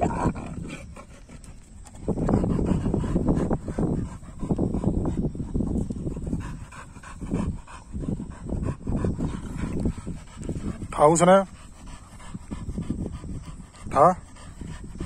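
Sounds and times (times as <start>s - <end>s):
dog panting hard: 0.0s - 15.0s.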